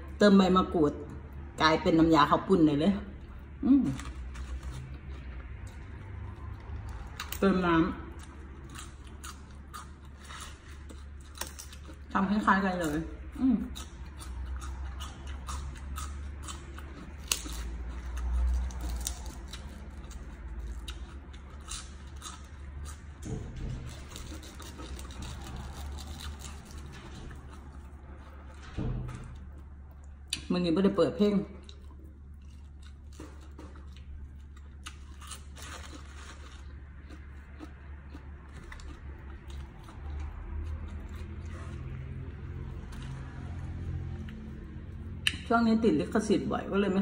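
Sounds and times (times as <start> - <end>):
chewing crunchy greens: 3.8 - 23.2, 23.8 - 28.6, 31.6 - 45.5.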